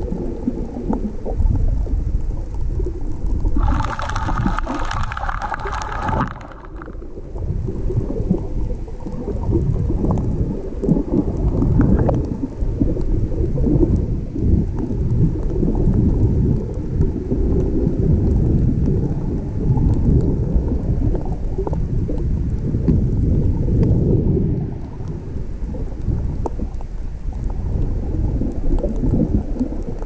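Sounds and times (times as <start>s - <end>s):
stormy sea water churning: 0.0s - 30.0s.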